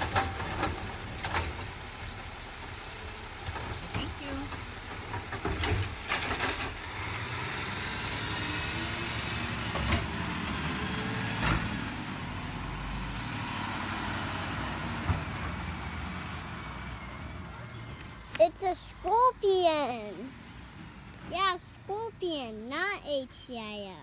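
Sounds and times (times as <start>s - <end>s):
garbage truck engine rumbling: 0.0s - 24.0s.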